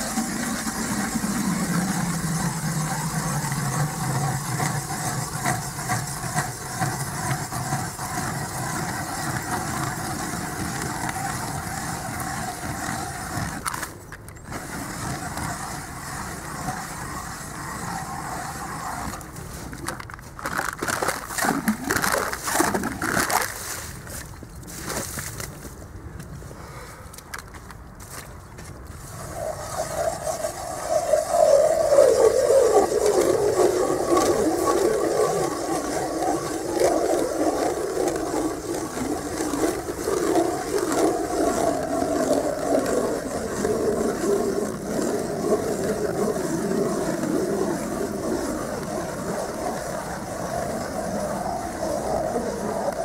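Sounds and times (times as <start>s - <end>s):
ice auger grinding ice: 0.0s - 25.1s, 28.9s - 53.0s.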